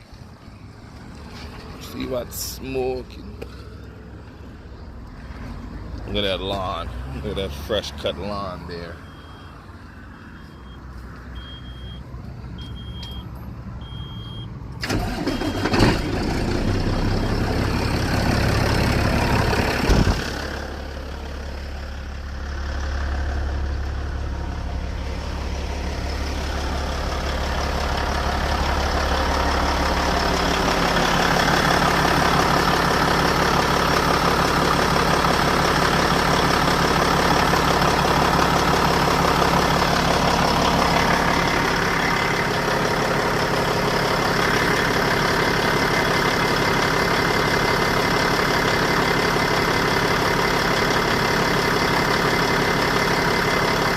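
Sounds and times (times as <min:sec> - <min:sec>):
diesel engine cranking and idling: 0:00.0 - 0:53.9.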